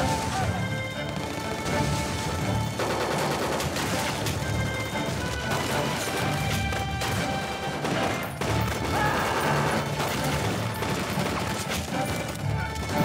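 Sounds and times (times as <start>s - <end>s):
background music score: 0.0s - 13.0s
rapid machine-gun fire: 0.0s - 13.0s.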